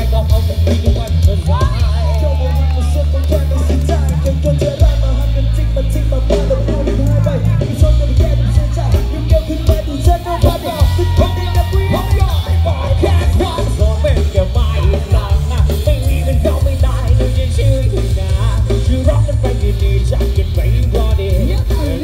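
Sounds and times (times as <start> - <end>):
band music over loudspeakers: 0.0 - 22.0
person singing: 0.0 - 22.0.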